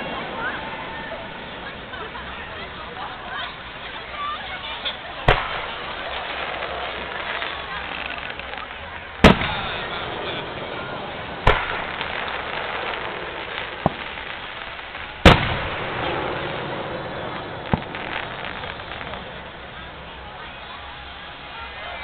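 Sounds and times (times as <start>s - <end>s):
fireworks bangs: 0.0s - 22.0s
small firework cracks: 0.0s - 22.0s
steady background noise: 0.0s - 22.0s.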